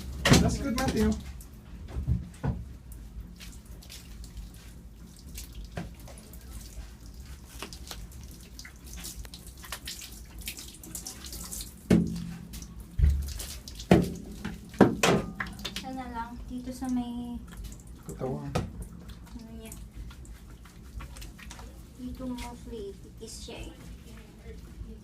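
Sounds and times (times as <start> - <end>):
bath water splashing: 0.0 - 25.0
steady low hum: 0.0 - 25.0.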